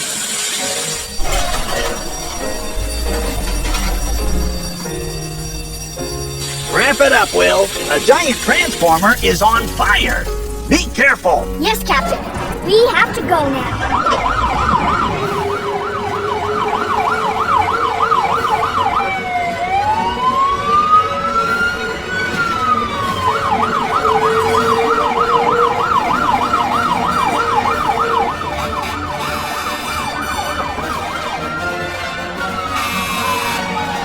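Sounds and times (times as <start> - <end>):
fire truck siren yelp and wail: 0.4 - 10.4, 11.0 - 34.0.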